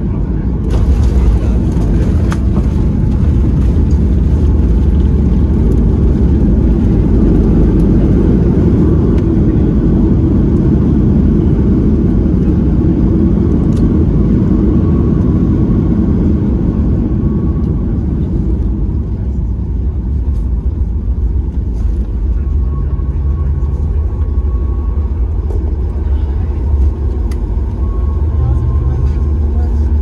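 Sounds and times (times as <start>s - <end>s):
airliner cabin rumble: 0.0s - 30.0s.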